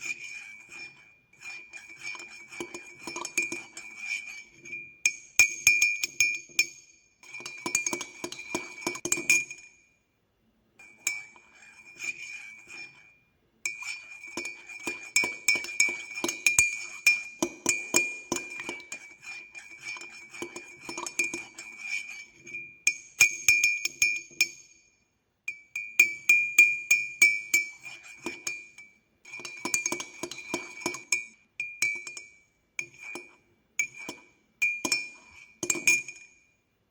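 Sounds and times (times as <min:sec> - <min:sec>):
teaspoon clinking in ceramic cup: 0:00.0 - 0:09.9, 0:10.8 - 0:13.0, 0:13.7 - 0:24.7, 0:25.5 - 0:36.6.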